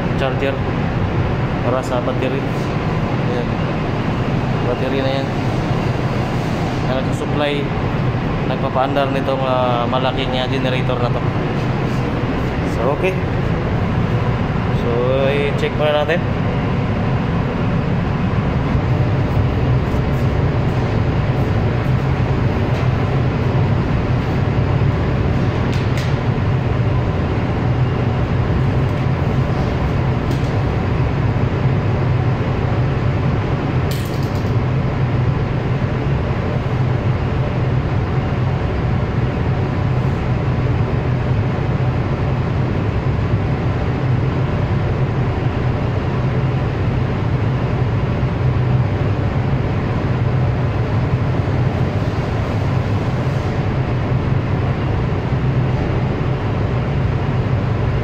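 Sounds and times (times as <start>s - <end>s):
generator drone: 0.0s - 58.0s.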